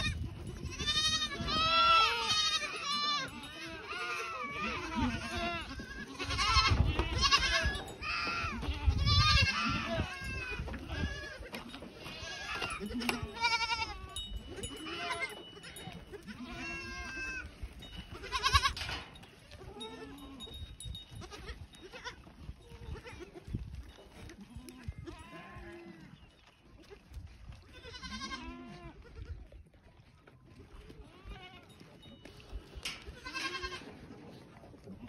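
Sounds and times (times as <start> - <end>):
goats bleating: 0.0 - 18.9, 19.5 - 20.6, 21.2 - 23.5, 24.3 - 26.2, 26.8 - 29.4, 30.5 - 32.1, 32.8 - 34.1.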